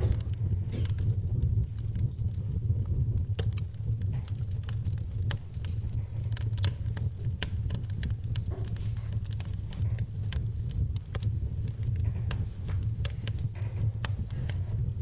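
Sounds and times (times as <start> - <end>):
fire crackling and popping: 0.0 - 15.0
low rumble: 0.0 - 15.0
rain pattering: 0.0 - 15.0.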